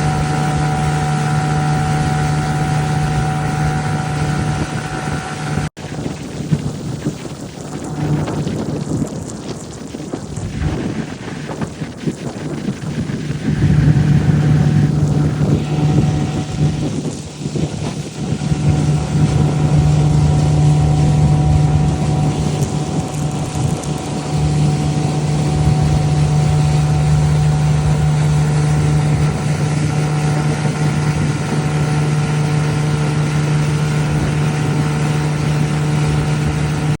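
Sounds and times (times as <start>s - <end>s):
boat engine running: 0.0s - 37.0s
water splashing along hull: 0.0s - 37.0s.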